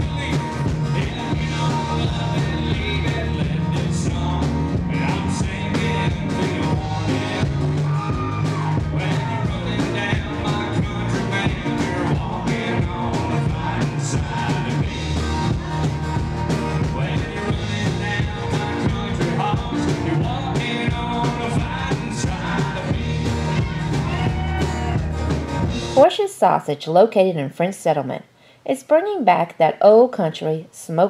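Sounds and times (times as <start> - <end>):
men singing into microphones: 0.0 - 25.3
electric bass: 0.0 - 26.0
strummed acoustic guitars: 0.0 - 26.2
drum kit steady beat: 0.0 - 26.3.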